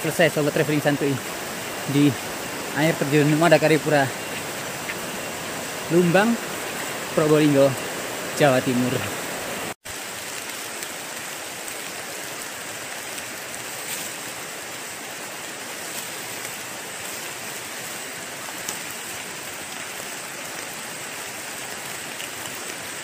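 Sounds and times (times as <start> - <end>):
rain on forest foliage: 0.0 - 23.0.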